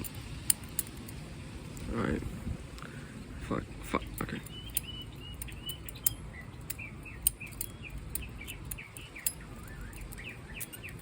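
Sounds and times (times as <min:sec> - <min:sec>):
butterfly knife handles clicking: 0:00.0 - 0:01.9, 0:04.0 - 0:11.0
small birds chirping: 0:00.0 - 0:11.0.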